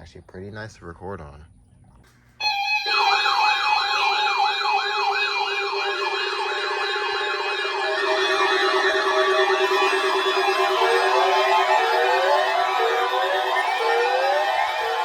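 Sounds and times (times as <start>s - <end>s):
electronic siren wailing: 2.4s - 15.0s
steady electronic tones: 2.4s - 15.0s.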